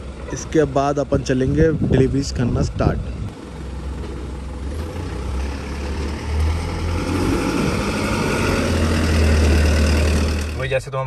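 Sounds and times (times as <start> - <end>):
diesel truck engine humming: 0.0 - 11.0.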